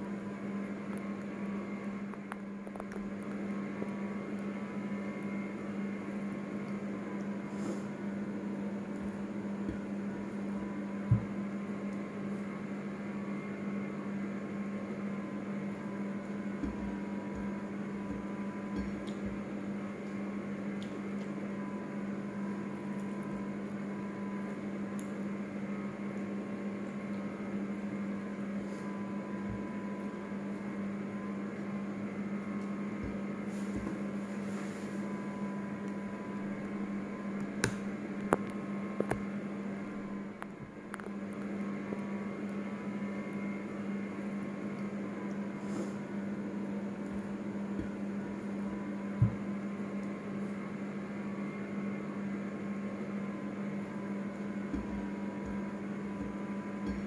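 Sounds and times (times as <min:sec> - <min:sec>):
appliance electrical hum: 0:00.0 - 0:57.0.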